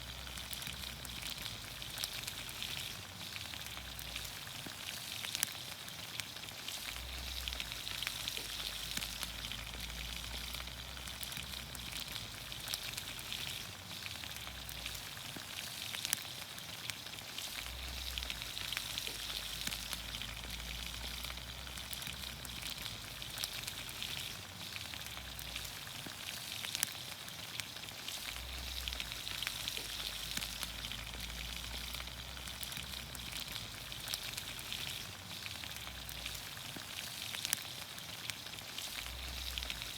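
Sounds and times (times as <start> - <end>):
pops and crackles: 0.0 - 39.9
vegetables sizzling in oil: 0.0 - 39.9.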